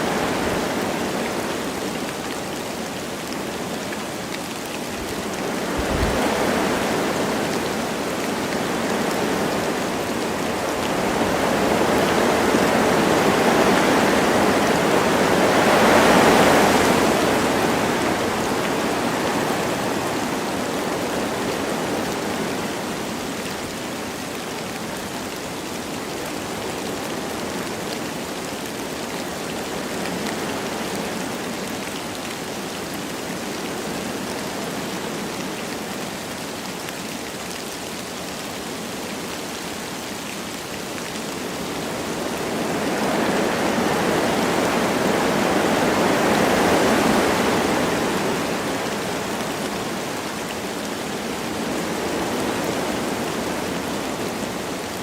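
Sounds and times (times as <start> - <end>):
light rain: 0.0 - 55.0
wind through forest trees: 0.0 - 55.0.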